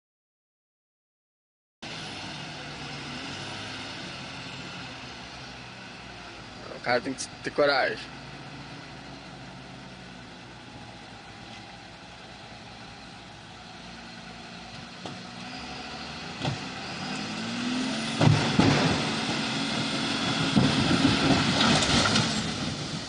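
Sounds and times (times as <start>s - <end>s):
vehicle engine revving: 1.8s - 7.5s, 8.1s - 23.0s.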